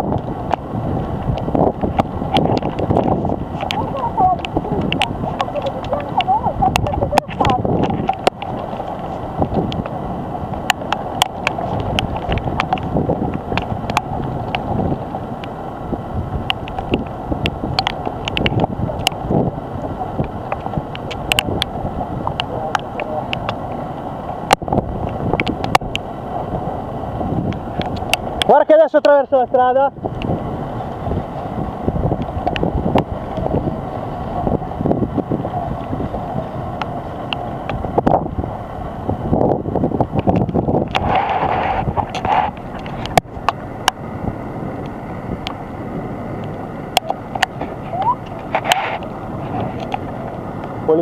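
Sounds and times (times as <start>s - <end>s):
storm wind on microphone: 0.0s - 51.0s.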